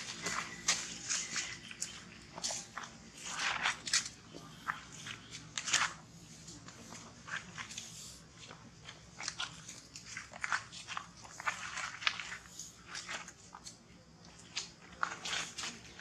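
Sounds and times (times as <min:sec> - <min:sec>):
gritty crunches and scuffs: 0:00.0 - 0:16.0.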